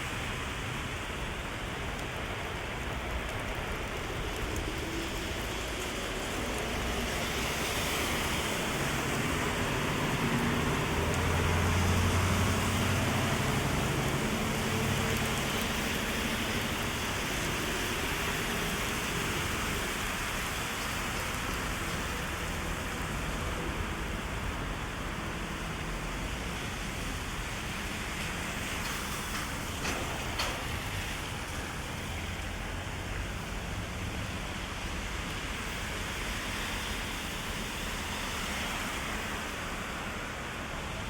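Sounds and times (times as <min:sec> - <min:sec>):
heavy rain on an umbrella: 0:00.0 - 0:41.0.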